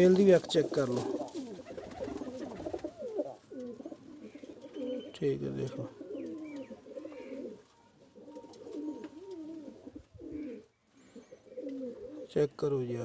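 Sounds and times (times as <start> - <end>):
pigeons cooing: 0.0 - 12.4.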